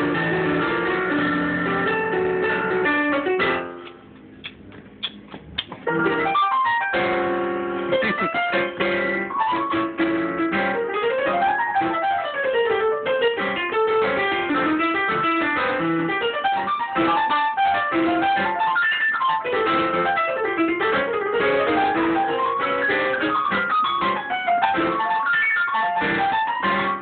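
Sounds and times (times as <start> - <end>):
fast digital piano playing: 0.0 - 3.9, 5.8 - 27.0.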